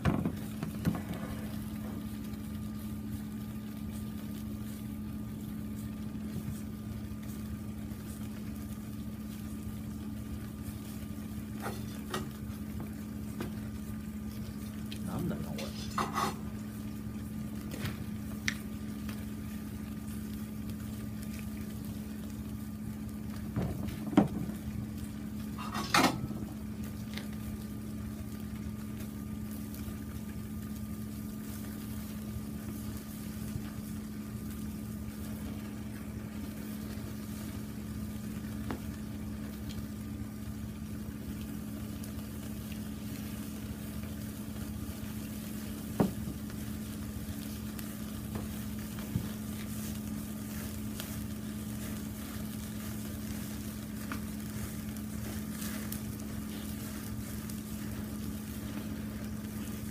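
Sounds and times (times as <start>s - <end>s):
chicken frying in oil: 0.0s - 59.9s.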